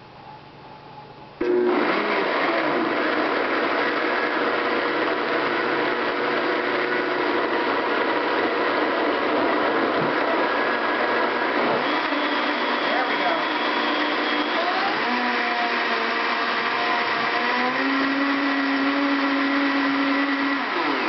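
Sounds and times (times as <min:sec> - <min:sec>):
blender motor running: 0:01.4 - 0:21.0.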